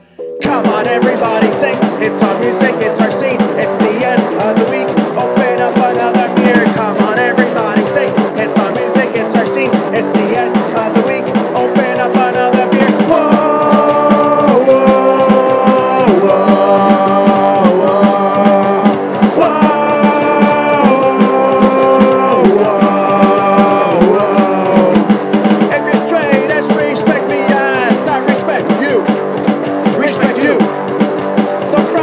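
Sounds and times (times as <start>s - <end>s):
sliding lead guitar line: 0.0s - 32.0s
fast drum and bass pulse: 0.5s - 32.0s.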